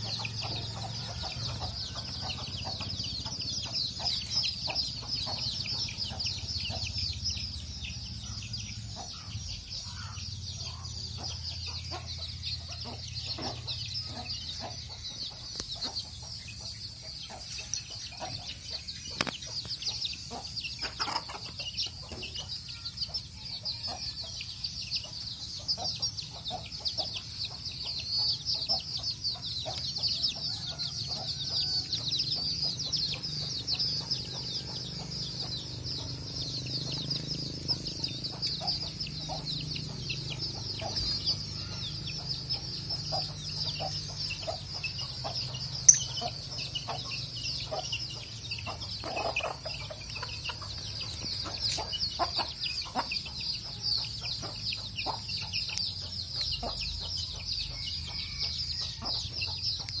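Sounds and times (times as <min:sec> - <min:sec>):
lovebirds chattering: 0:00.0 - 1:00.0.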